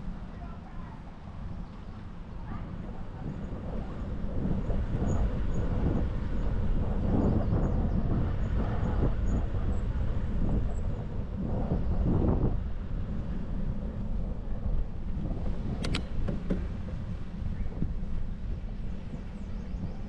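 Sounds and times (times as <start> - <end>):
bicycle rolling on pavement: 0.0 - 20.0
wind on microphone: 0.0 - 20.0.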